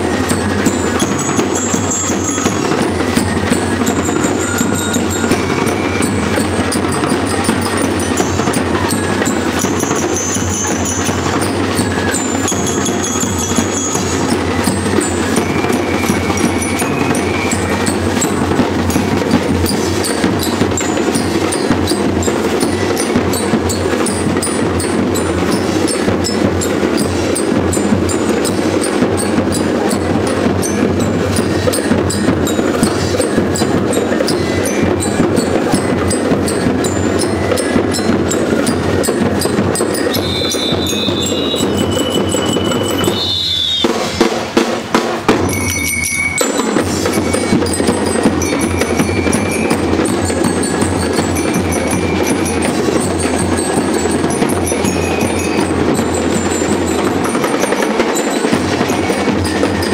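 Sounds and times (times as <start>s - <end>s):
bell lyres ringing: 0.0s - 44.3s, 45.3s - 59.9s
fast drumming: 0.0s - 59.9s.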